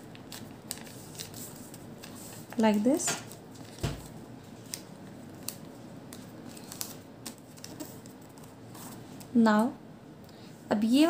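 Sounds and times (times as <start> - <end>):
paper crackling and ticking: 0.0 - 9.4.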